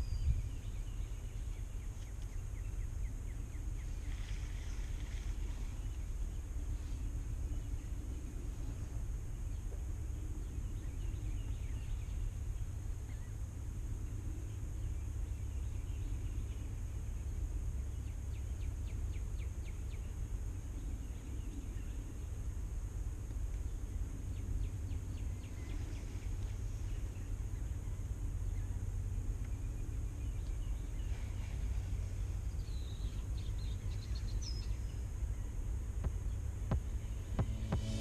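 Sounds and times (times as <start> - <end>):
steady high hiss: 0.0 - 38.0
wind rumble on microphone: 0.0 - 38.0.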